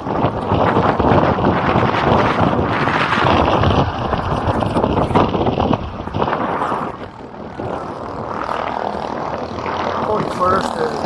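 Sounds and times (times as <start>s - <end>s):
vehicle engine and road noise: 0.0s - 11.0s
wind buffeting microphone: 0.0s - 11.0s.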